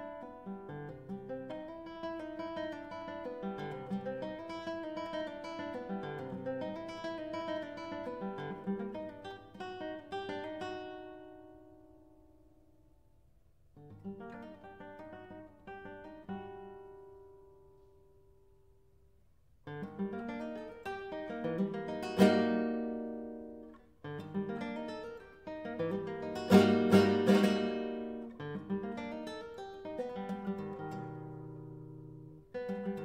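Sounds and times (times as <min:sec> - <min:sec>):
classical guitar playing: 0:00.0 - 0:13.1, 0:13.8 - 0:18.5, 0:19.6 - 0:33.0.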